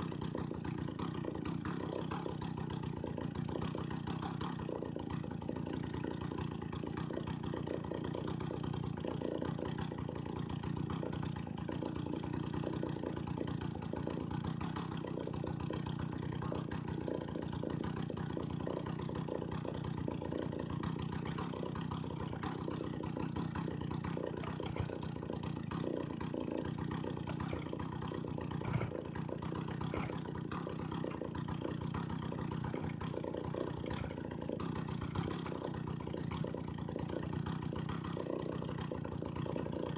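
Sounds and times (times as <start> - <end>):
chainsaw engine running steadily: 0.0 - 39.9.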